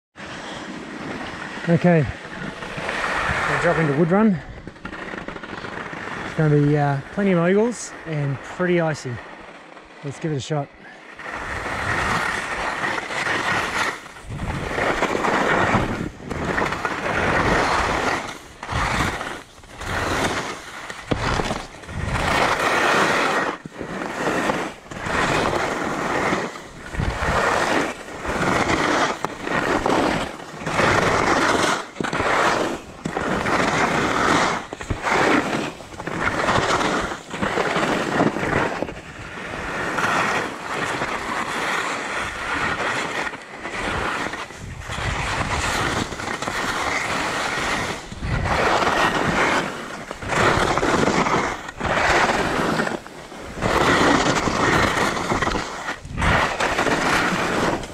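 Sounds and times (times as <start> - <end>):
skis scraping on icy snow: 0.2 - 57.9.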